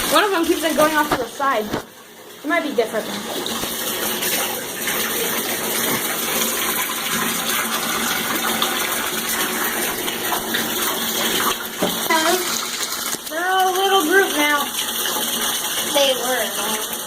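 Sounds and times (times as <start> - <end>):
tap running into bathtub: 0.0 - 2.0, 2.8 - 17.0.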